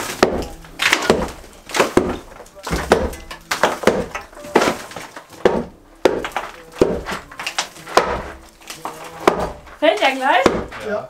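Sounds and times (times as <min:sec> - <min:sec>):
debris crumbling and falling: 0:00.0 - 0:11.0.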